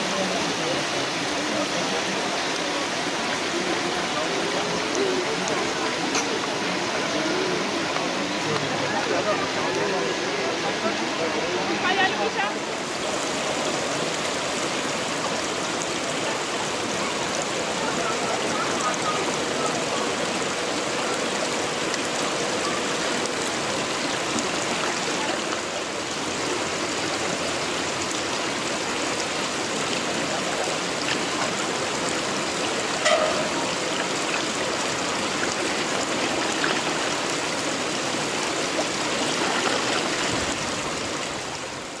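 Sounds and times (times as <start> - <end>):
running water rushing: 0.0 - 42.0.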